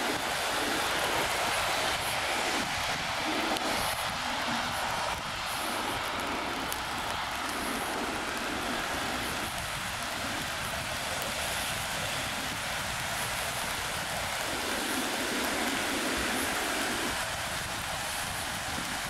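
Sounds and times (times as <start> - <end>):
rain hissing on wet pavement: 0.0 - 19.0
traffic on wet roads: 0.0 - 19.0.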